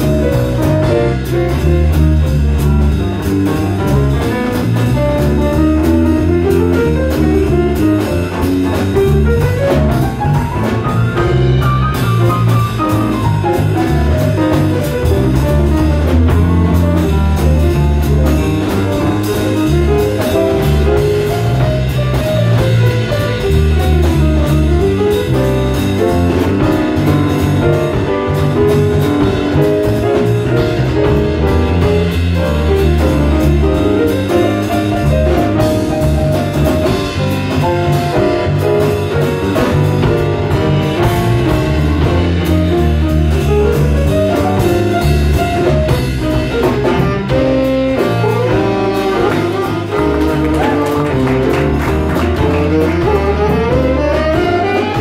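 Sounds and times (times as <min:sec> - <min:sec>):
drums: 0:00.0 - 0:55.0
electric bass: 0:00.0 - 0:55.0
jazz combo playing: 0:00.0 - 0:55.0
piano: 0:00.0 - 0:55.0.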